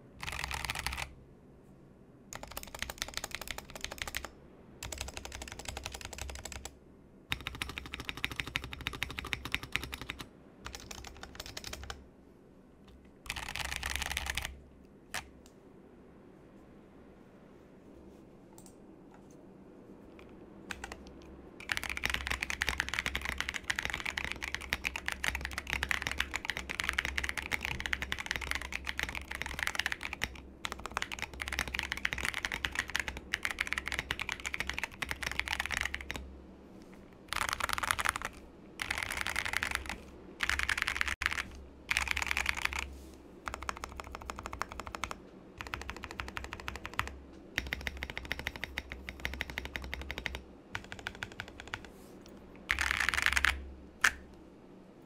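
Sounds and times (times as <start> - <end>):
mechanical keyboard typing: 0.2 - 1.1, 2.3 - 12.0, 13.2 - 15.3, 20.1 - 36.2, 37.3 - 51.9, 52.7 - 54.2.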